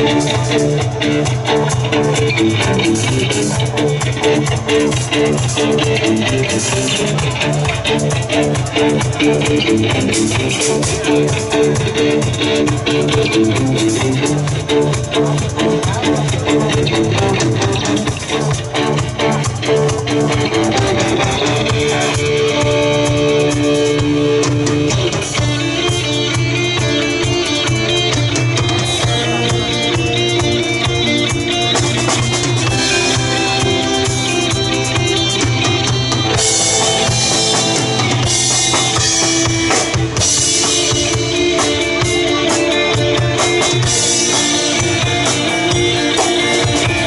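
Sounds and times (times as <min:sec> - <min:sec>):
rock band playing: 0:00.0 - 0:47.0.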